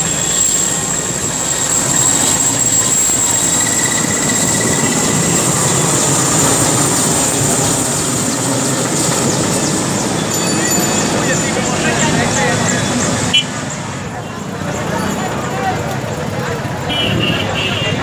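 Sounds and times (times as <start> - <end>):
high steady turbine whine: 0.0 - 16.4
helicopter rotor and engine noise: 0.0 - 18.0.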